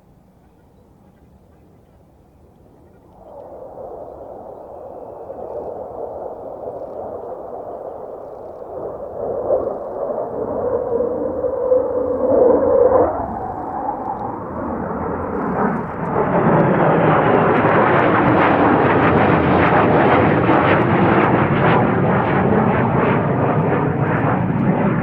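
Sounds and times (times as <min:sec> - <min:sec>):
jet roar: 0:03.2 - 0:25.0.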